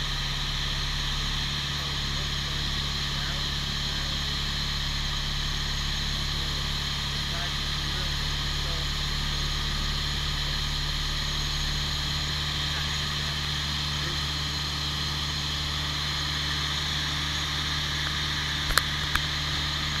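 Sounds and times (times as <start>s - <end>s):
aircraft engine and propeller drone: 0.0s - 20.0s.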